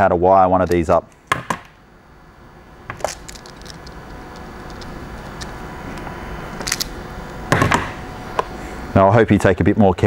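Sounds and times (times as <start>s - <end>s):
low hum: 1.7s - 10.0s.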